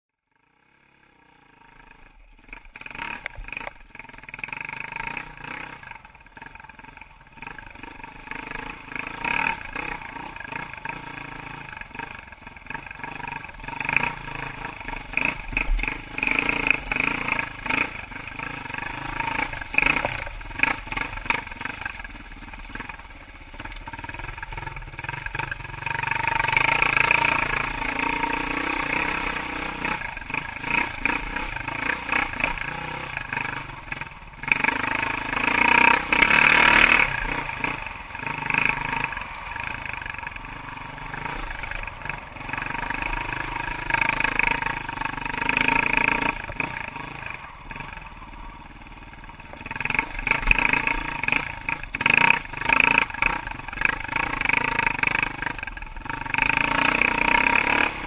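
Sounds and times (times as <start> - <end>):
dirt bike engine revving: 0.4 - 58.0.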